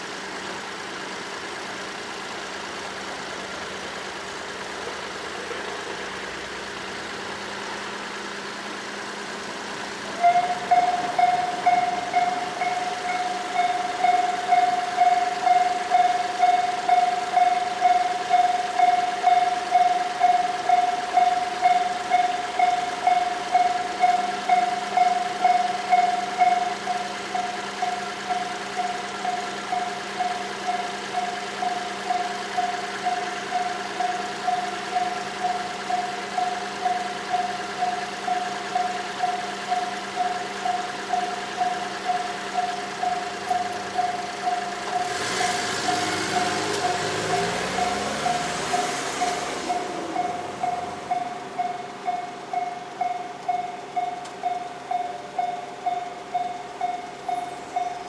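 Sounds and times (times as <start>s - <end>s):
train rushing over rails: 2.8s - 58.0s
level crossing alarm dings: 10.0s - 58.0s.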